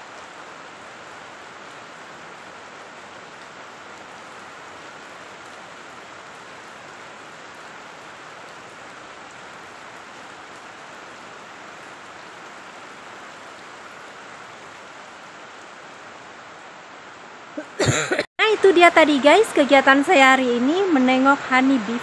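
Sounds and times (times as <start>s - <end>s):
rain on a plastic roof: 0.0s - 17.6s, 18.6s - 22.0s.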